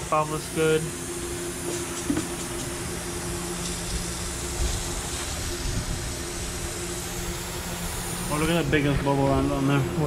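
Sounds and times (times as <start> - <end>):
air hissing from engine intake: 0.1 - 10.0.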